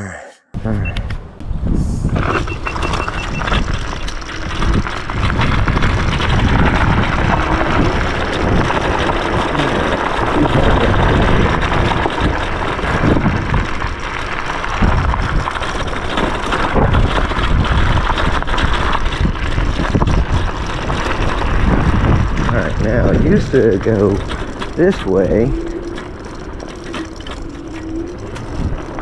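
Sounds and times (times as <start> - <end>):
wind on microphone: 0.6 - 29.0
tyre rumble: 1.4 - 29.0
small knocks and rattles: 2.8 - 29.0.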